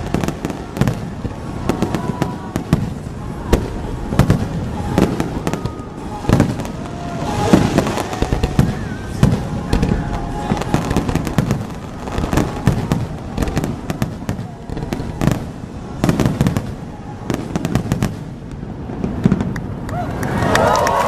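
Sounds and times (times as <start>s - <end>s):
fireworks booming and crackling: 0.0s - 19.9s.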